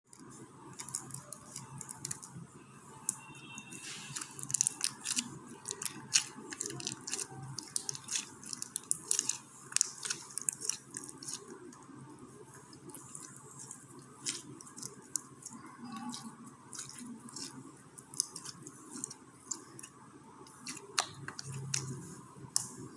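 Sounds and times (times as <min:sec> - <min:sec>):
bead slime squished crackling: 0:00.2 - 0:02.4, 0:03.0 - 0:22.9.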